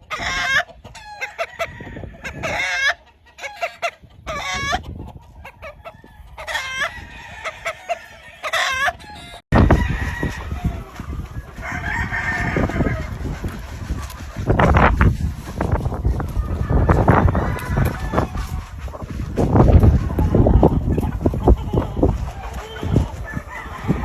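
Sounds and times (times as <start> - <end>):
chicken calls: 0.0 - 24.0
roosters crowing: 0.0 - 24.0.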